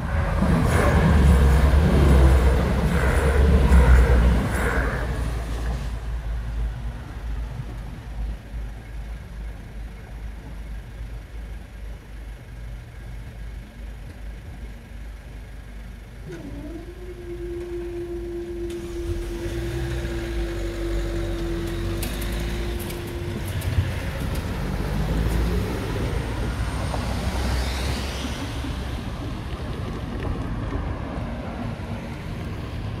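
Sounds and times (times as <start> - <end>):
vehicles passing with low rumble: 0.0 - 33.0.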